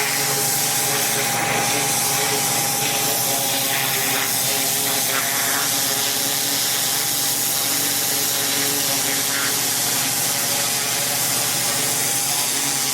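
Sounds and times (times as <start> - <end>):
pressure washer machine hum: 0.0 - 12.9
pressure washer water hiss: 0.0 - 12.9.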